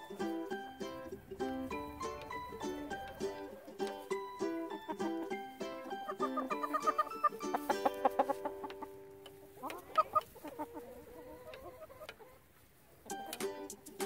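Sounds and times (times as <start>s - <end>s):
plucked ukulele music: 0.0s - 10.6s, 13.0s - 14.0s
hen clucking: 0.0s - 14.0s.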